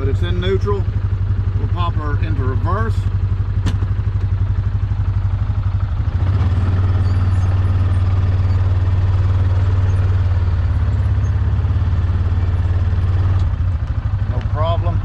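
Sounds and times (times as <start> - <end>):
utility vehicle engine idling: 0.0 - 15.0.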